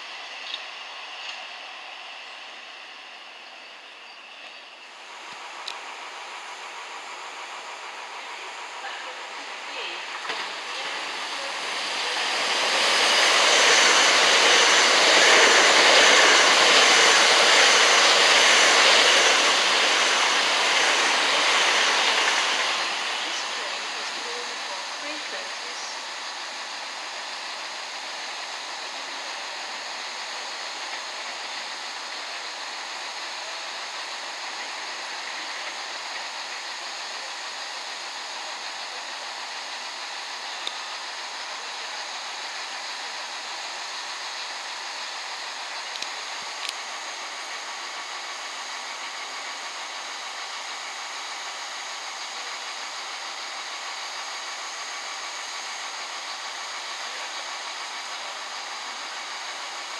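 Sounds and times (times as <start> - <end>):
diesel train idling: 0.0 - 59.9.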